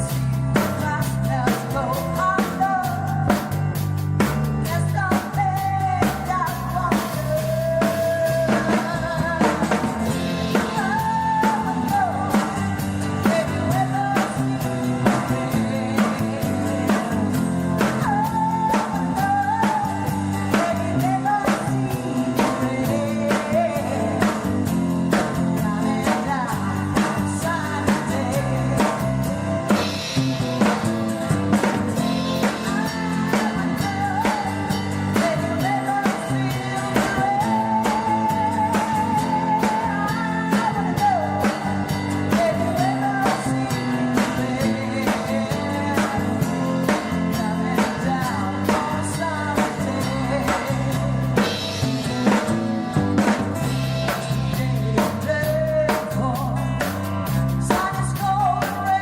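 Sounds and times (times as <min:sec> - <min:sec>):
bending lead guitar melody: 0:00.0 - 0:59.0
drum kit beat: 0:00.0 - 0:59.0
rock band playing: 0:00.0 - 0:59.0.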